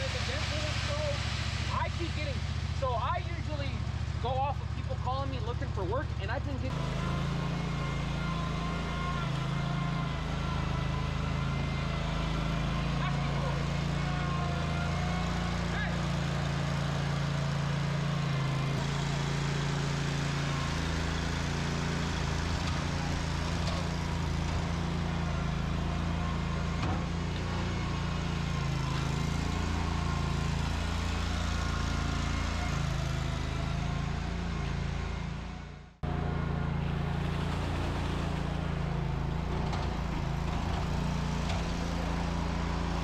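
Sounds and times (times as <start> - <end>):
engine running with low drone: 0.0 - 43.0.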